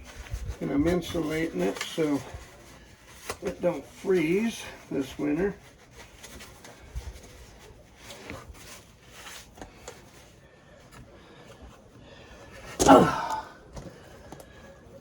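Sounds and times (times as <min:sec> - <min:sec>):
rubbing of foam insulation: 0:00.0 - 0:12.8.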